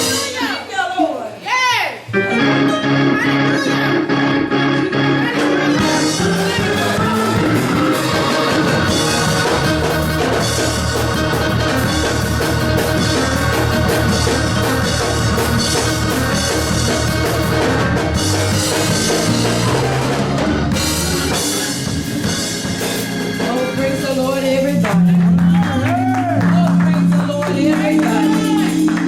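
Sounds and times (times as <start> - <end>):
bass playing: 0.0 - 0.9, 2.1 - 29.0
drum kit: 0.0 - 1.4, 5.0 - 29.0
gospel band music: 0.0 - 29.0.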